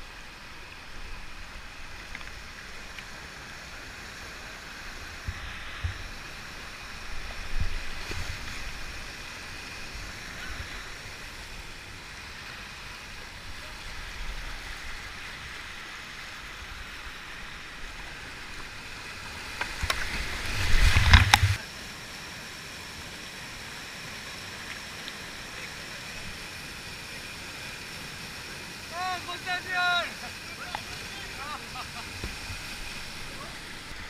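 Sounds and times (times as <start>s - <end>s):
whitewater rushing over rocks: 0.0s - 34.0s.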